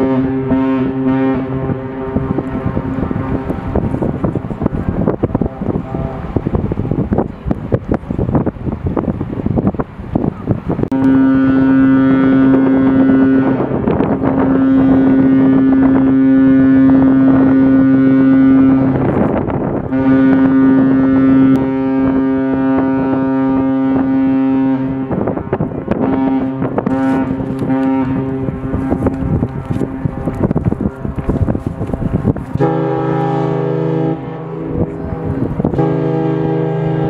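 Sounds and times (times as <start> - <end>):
ship's horn long blasts: 0.0 - 37.0
wind buffeting microphone: 0.0 - 37.0.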